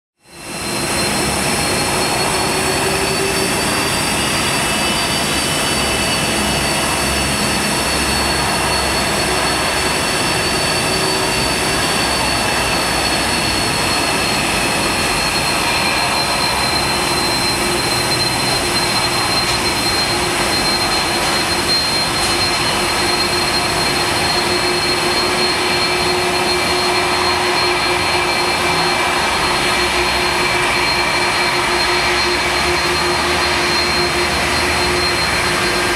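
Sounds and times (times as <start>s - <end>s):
jet engines idling: 0.3s - 35.9s.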